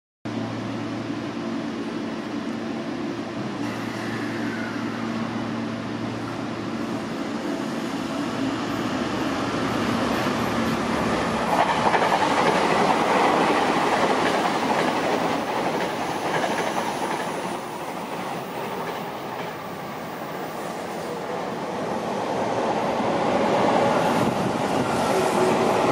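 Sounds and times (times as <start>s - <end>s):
electric train pulling out: 3.4s - 25.9s.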